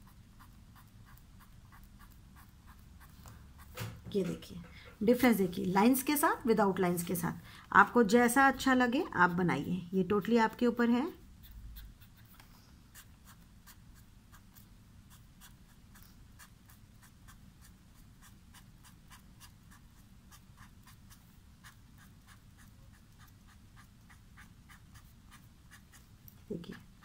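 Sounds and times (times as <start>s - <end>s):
marker pen scratching on paper: 0.0s - 4.4s, 9.2s - 27.0s.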